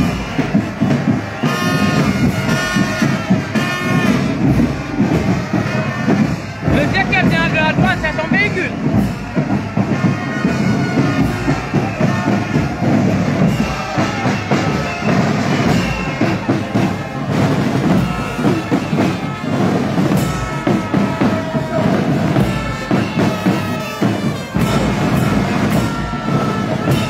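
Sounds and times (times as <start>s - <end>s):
loud drumming with music: 0.0s - 27.0s.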